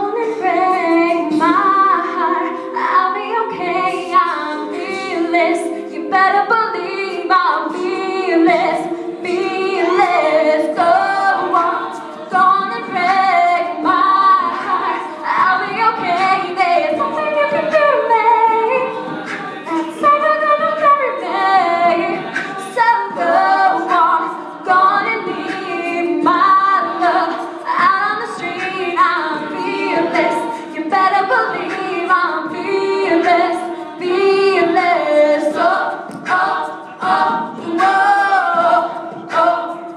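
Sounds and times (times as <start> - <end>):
female choir singing a cappella: 0.0 - 39.9.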